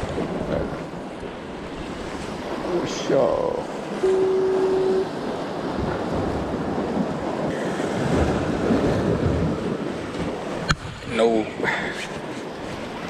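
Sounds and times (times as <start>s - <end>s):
wind buffeting microphone: 0.0s - 13.0s
surf breaking on rocks: 1.6s - 13.0s.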